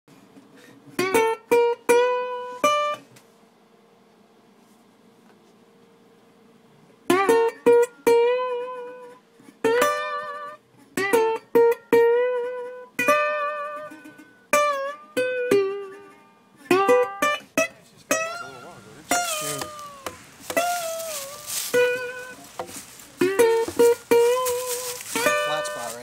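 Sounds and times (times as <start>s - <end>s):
solo guitar music: 0.9s - 3.1s, 7.0s - 26.0s.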